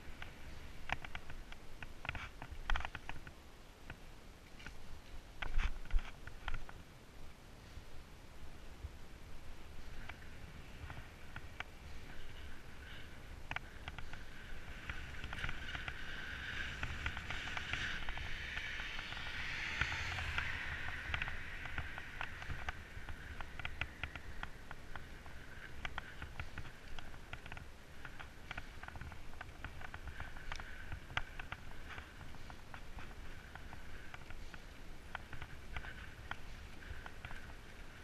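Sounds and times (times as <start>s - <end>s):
bike clicks and rattles: 0.0s - 6.8s, 9.6s - 38.0s
tyre and wind noise: 0.0s - 38.0s.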